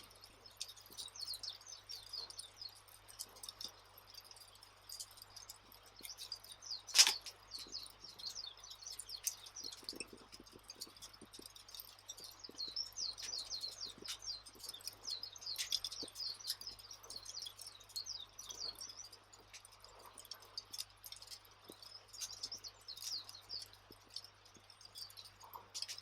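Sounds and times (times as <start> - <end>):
small birds twittering: 0.0 - 26.0
wood fire crackling: 0.0 - 26.0.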